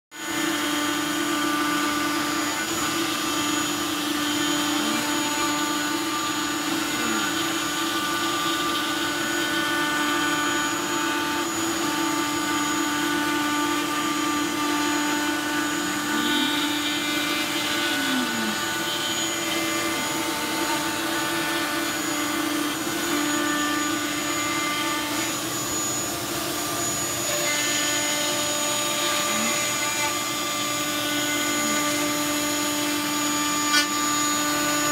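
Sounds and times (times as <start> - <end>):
router spindle whine: 0.1 - 34.9
stepper motor tones gliding: 1.3 - 34.9.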